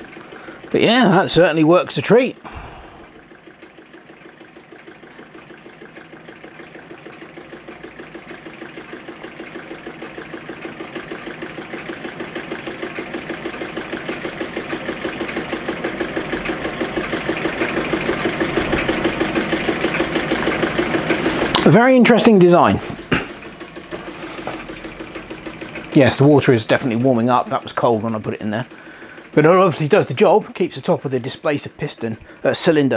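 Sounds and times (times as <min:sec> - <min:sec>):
engine mechanical beat: 0:02.3 - 0:32.9.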